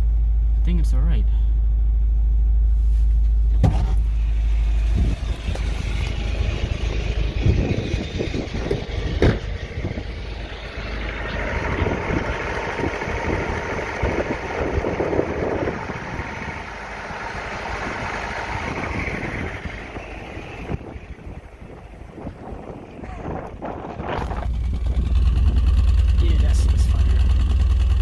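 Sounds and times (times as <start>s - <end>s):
engine idling unevenly: 0.0s - 28.0s.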